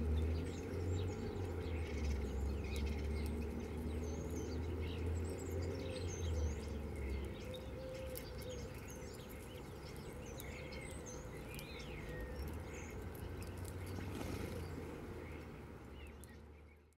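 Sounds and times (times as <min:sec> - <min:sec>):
songbirds chirping: 0:00.0 - 0:16.9.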